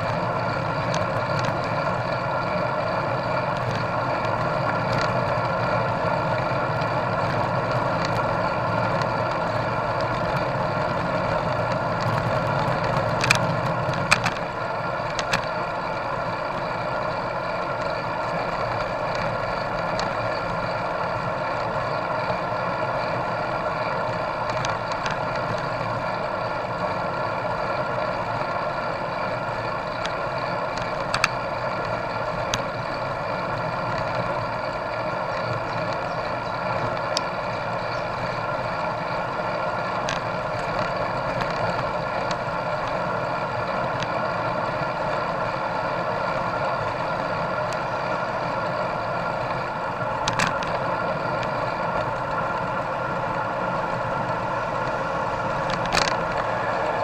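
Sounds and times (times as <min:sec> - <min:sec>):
tyres rumbling on asphalt: 0:00.0 - 0:57.0
wind: 0:00.0 - 0:57.0.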